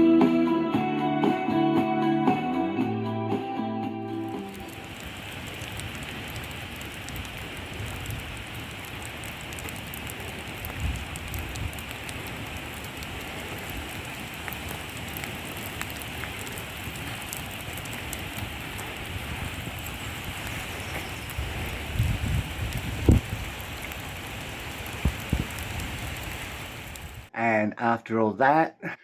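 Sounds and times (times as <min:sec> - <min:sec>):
steady rain falling: 0:04.1 - 0:27.3.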